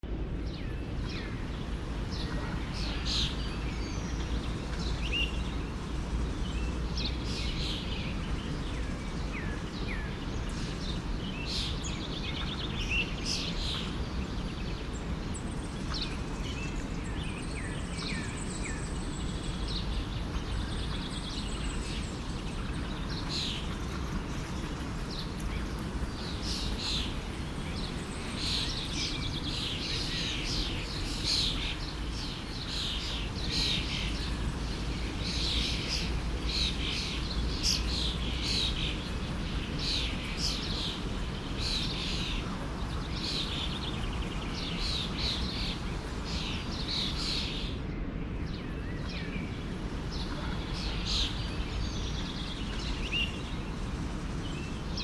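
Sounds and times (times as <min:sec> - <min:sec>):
small birds chirping: 0:00.3 - 0:47.8, 0:48.4 - 0:55.0
stream running: 0:00.8 - 0:47.8, 0:48.5 - 0:55.0.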